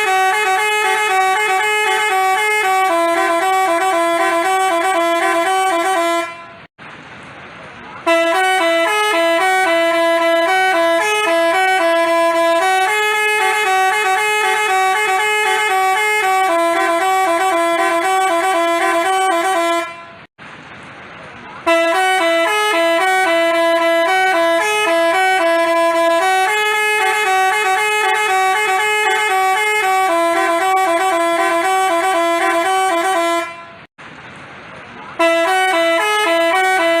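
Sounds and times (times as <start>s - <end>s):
multi-tone bus horn melody: 0.0s - 6.7s, 8.0s - 20.3s, 21.6s - 33.9s, 35.2s - 37.0s.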